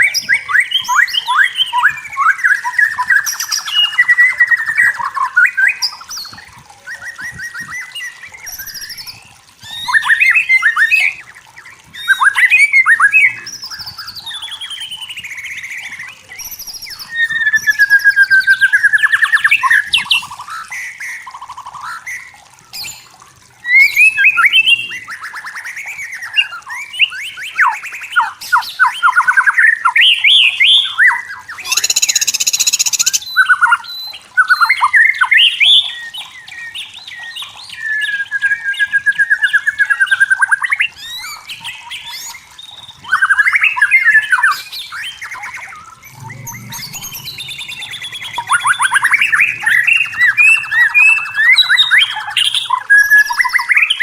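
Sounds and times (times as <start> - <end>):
bird singing whistled phrases: 0.0 - 20.9, 21.8 - 54.0.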